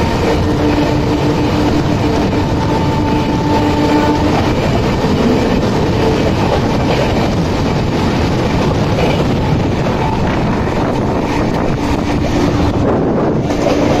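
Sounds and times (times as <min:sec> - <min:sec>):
train rumbling and rattling: 0:00.0 - 0:14.0
wind buffeting microphone: 0:00.0 - 0:14.0.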